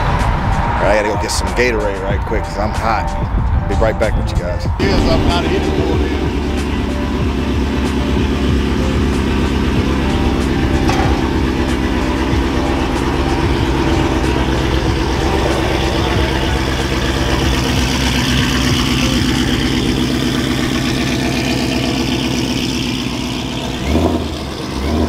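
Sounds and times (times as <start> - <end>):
car engine idling: 4.4 - 25.0.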